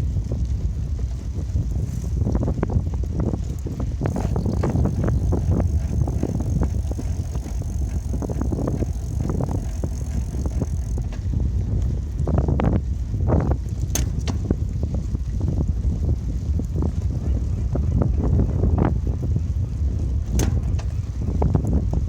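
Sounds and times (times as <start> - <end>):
bicycle rattles and knocks: 0.0 - 22.0
wind rumbling on microphone: 0.0 - 22.0.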